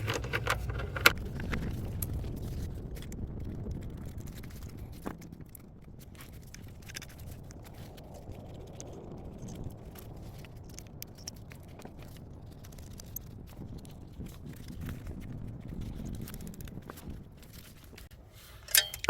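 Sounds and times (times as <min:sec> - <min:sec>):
low rumble: 0:00.0 - 0:18.2
metal clicks and scrapes: 0:00.0 - 0:19.0.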